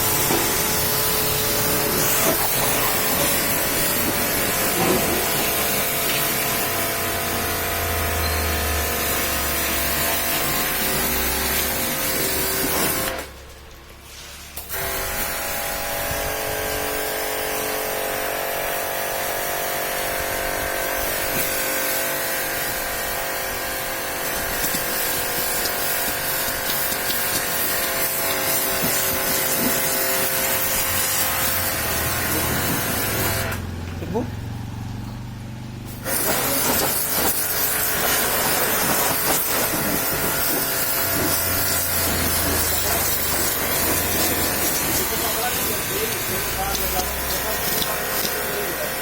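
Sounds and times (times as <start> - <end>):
water spray hiss: 0.0 - 13.3, 14.0 - 33.7, 35.9 - 49.0
pressure washer motor whine: 0.0 - 13.6, 14.6 - 49.0.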